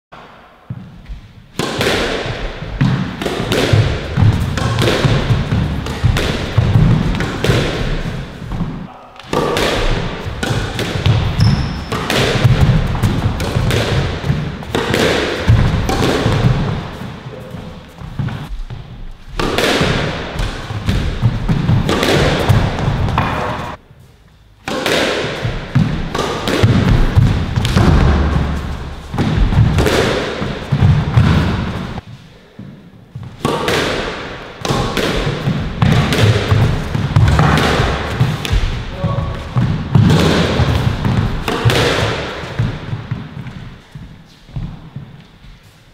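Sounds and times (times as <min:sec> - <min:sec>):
squash ball cracking off rackets: 0:00.7 - 0:17.1, 0:19.4 - 0:23.8, 0:24.6 - 0:32.0, 0:33.2 - 0:43.7.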